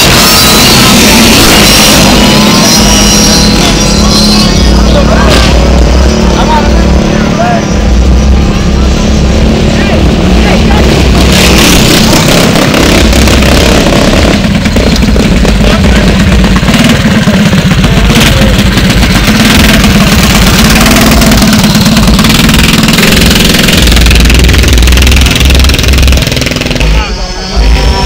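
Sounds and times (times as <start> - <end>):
minibike engine running: 0.0 - 28.0.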